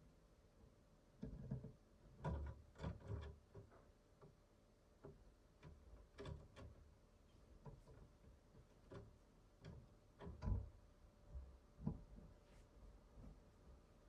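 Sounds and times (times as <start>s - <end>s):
light taps and knocks: 1.2s - 4.4s, 5.0s - 13.5s.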